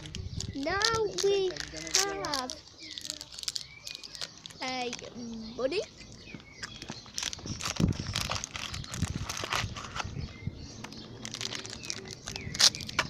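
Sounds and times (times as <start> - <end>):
toy packaging crinkling: 0.0 - 5.2, 6.6 - 10.1, 11.2 - 13.0
small clicks and crackles: 0.0 - 10.1, 10.8 - 13.0.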